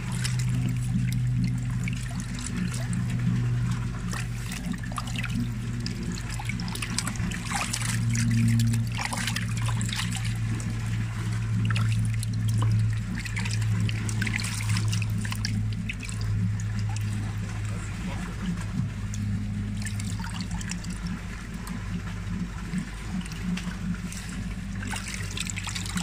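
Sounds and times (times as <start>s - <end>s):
steady low hum: 0.0s - 26.0s
water splashing into bucket: 0.0s - 26.0s.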